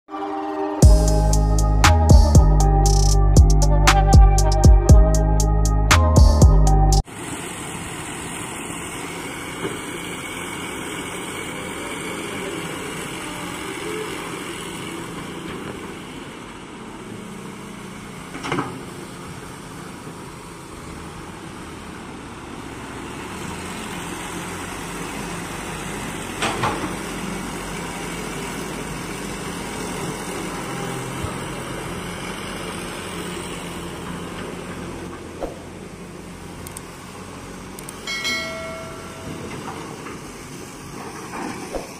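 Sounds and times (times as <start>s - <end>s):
excavator diesel engine running: 0.1s - 41.9s.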